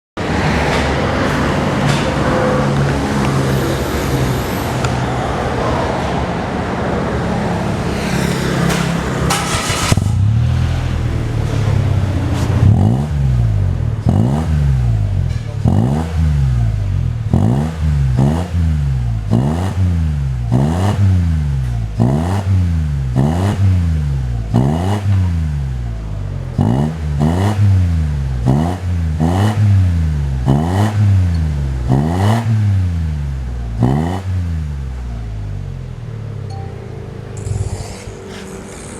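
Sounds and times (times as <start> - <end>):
car engine revving: 0.2 - 38.9.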